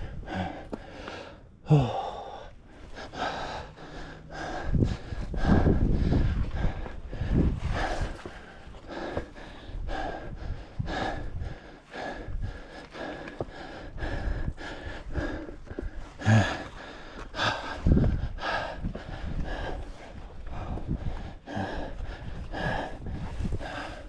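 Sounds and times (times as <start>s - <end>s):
person breathing hard: 0.0s - 24.0s.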